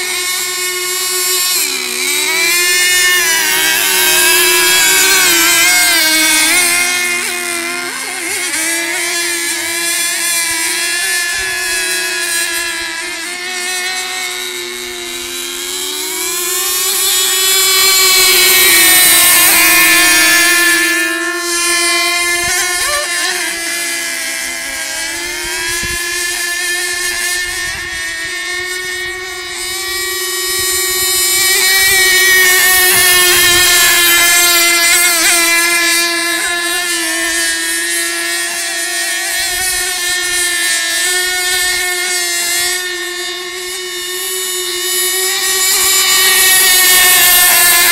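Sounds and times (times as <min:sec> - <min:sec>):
model boat engines whining: 0:00.0 - 0:47.9.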